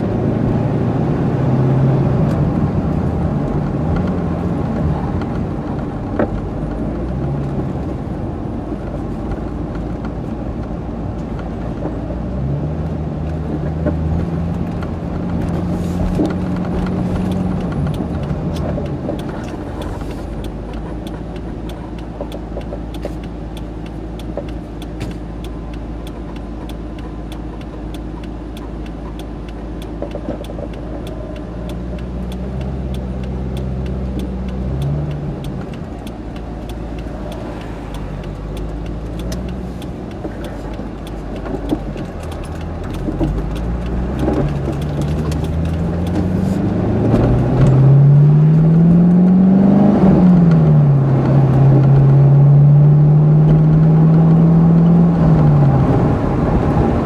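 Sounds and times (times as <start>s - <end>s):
car engine idling and accelerating: 0.0s - 57.0s.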